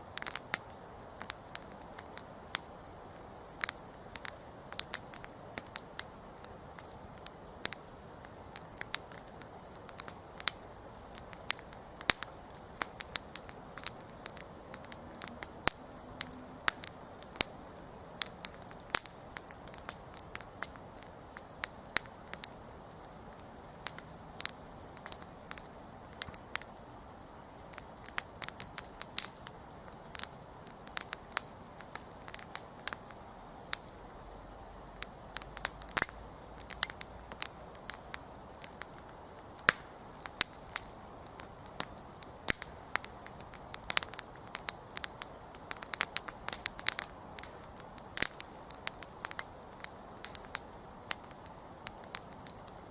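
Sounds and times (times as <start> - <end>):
campfire crackling and popping: 0.0 - 52.9
hiss of flames: 0.0 - 52.9.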